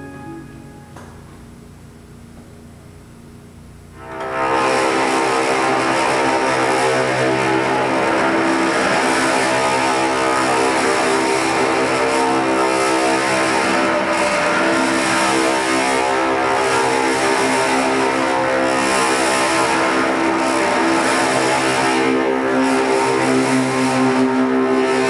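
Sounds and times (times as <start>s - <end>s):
droning music over speaker: 0.0s - 25.0s.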